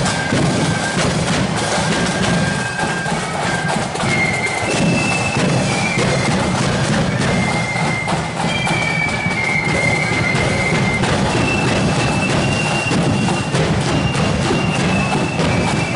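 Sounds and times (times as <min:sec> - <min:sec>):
flute melody: 0:00.0 - 0:15.9
steady drumming: 0:00.0 - 0:15.9.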